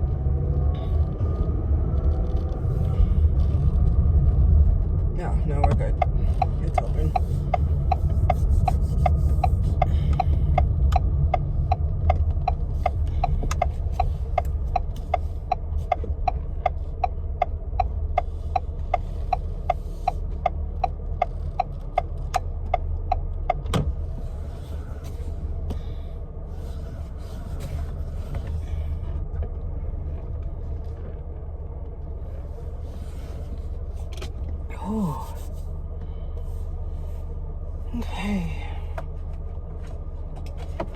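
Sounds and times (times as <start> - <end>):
car engine and road hum: 0.0 - 40.9
turn signal ticking: 0.0 - 40.9.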